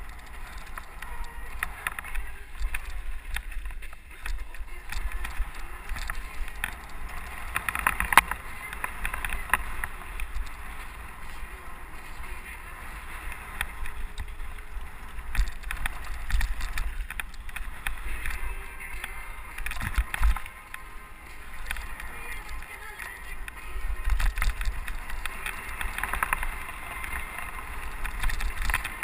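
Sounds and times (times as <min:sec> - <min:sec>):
bike rattles and knocks: 0:00.0 - 0:29.0
bike tyres on dirt and gravel: 0:00.0 - 0:29.0
low wind rumble on microphone: 0:00.0 - 0:29.0.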